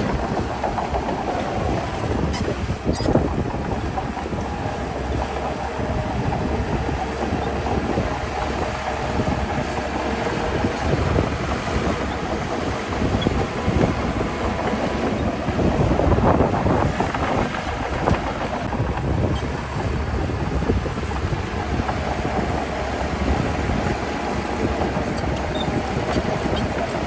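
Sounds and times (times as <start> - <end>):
diesel machinery engine rumble: 0.0 - 27.0.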